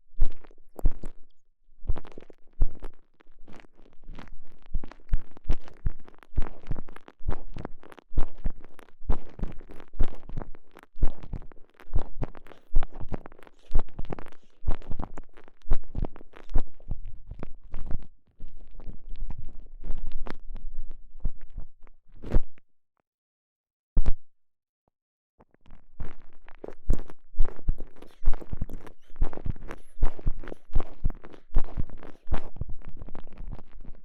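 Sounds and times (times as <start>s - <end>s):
rubbing and squeezing on microphone: 0.2s - 22.5s, 25.4s - 34.0s.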